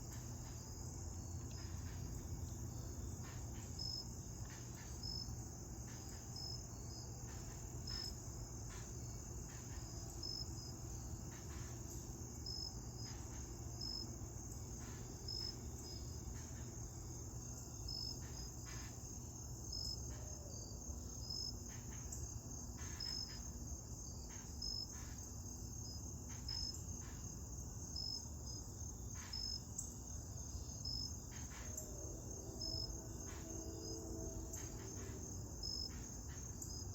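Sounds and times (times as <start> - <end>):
insect chirps and ticks: 0.0 - 36.9
insect trill: 0.0 - 36.9.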